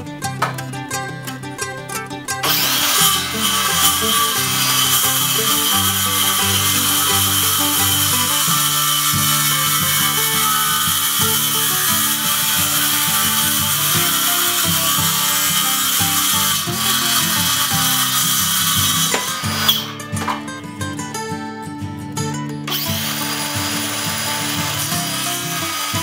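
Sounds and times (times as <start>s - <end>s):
circular saw cutting wood: 0.0s - 20.7s, 22.7s - 26.0s
background music with low notes: 0.0s - 26.0s.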